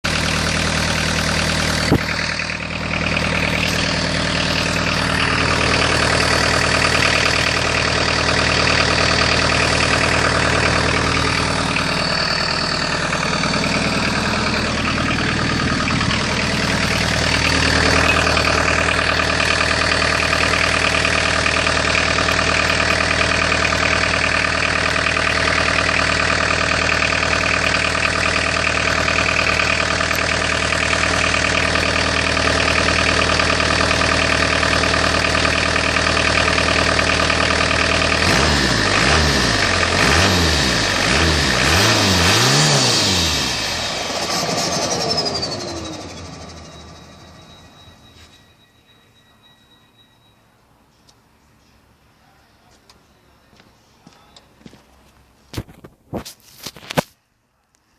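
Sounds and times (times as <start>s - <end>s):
diesel engine idling: 0.0s - 55.5s.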